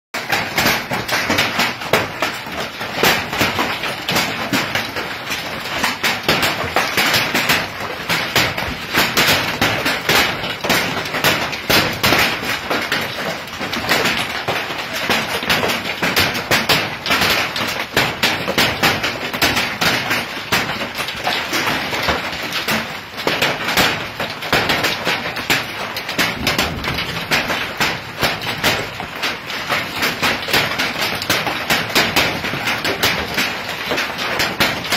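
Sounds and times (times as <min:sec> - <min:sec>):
hailstones pelting hard surfaces: 0:00.2 - 0:34.9.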